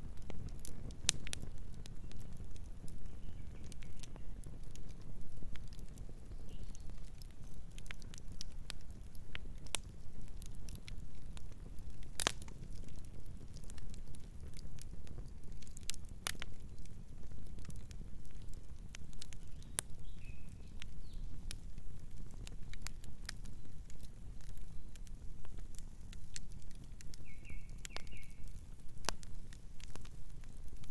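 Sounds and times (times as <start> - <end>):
low rumble of burning: 0.0 - 30.9
wood fire crackling and popping: 0.0 - 30.9.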